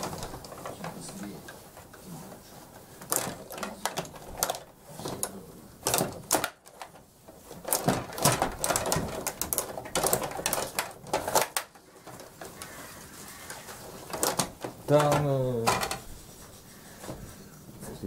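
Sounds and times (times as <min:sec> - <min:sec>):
table hockey rods clattering: 0:00.0 - 0:16.5.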